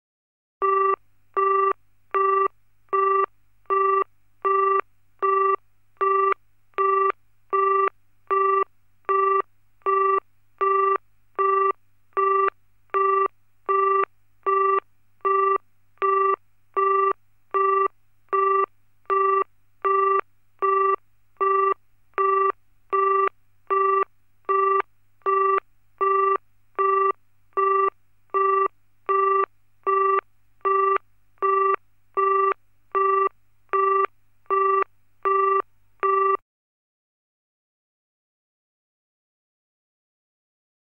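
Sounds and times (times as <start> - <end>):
telephone busy tone beeping: 0.6 - 36.4.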